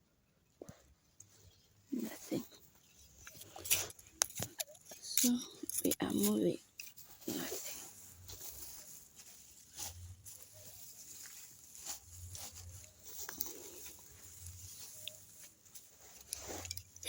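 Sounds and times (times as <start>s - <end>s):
rustling in garden bed: 0.6s - 17.0s
footsteps crunching: 1.2s - 17.0s.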